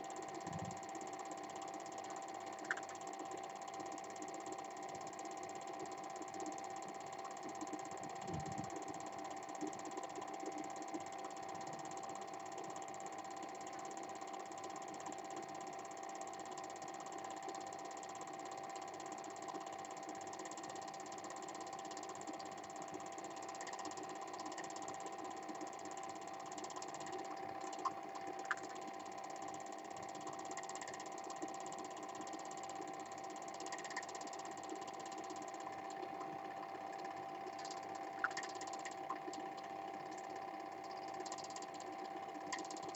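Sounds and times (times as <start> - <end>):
film projector whirring: 0.0 - 42.9.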